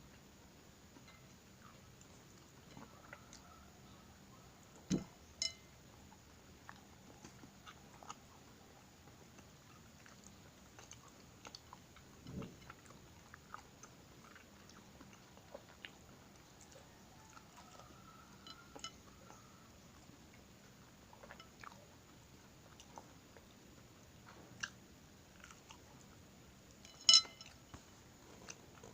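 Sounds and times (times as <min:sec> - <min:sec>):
crunchy chewing: 0:01.0 - 0:28.9.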